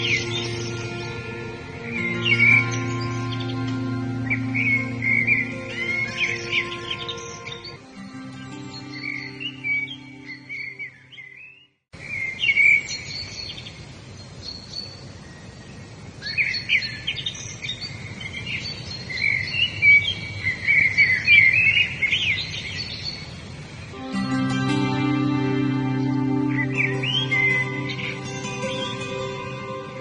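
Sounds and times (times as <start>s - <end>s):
outdoor ambience: 0.0s - 30.0s
wild birds chirping and trilling: 0.0s - 30.0s.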